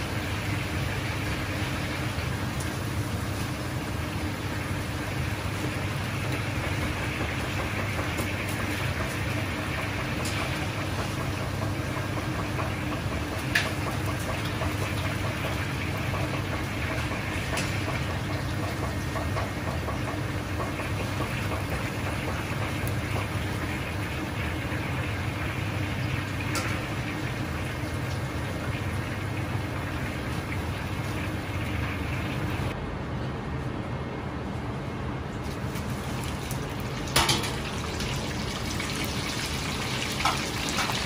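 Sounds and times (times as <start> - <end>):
kitchen range and extractor hum: 0.0 - 41.0.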